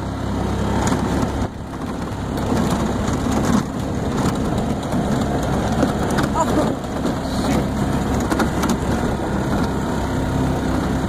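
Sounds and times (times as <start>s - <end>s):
golf cart rumbling: 0.0s - 11.0s
knocks and rattles over bumps: 0.0s - 11.0s.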